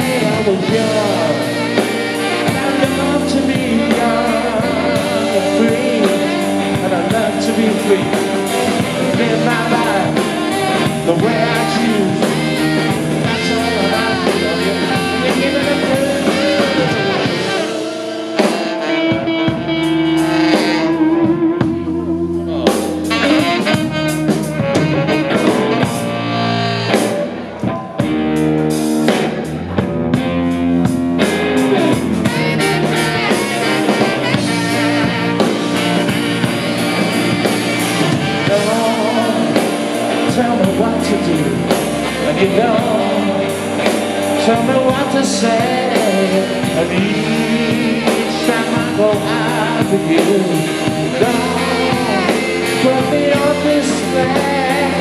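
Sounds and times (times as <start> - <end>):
drums: 0.0 - 55.0
live rock band playing: 0.0 - 55.0
saxophone: 0.0 - 55.0.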